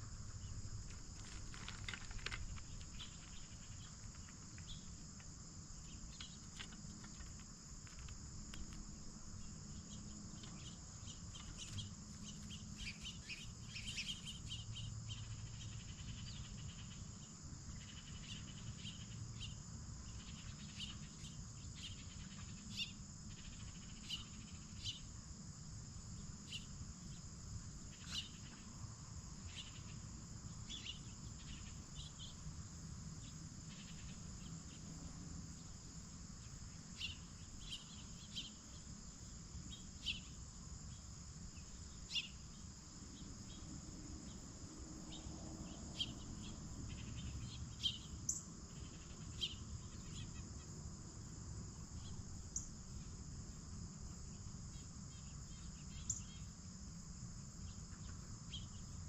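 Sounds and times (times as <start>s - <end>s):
crickets and insects chirring: 0.0s - 59.0s.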